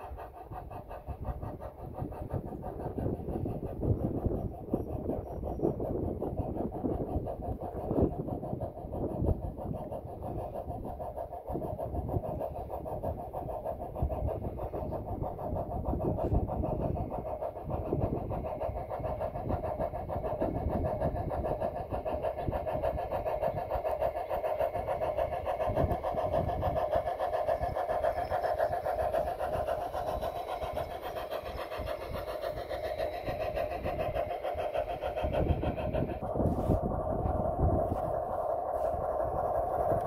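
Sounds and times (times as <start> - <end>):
model train motor whirring: 0.0 - 40.0.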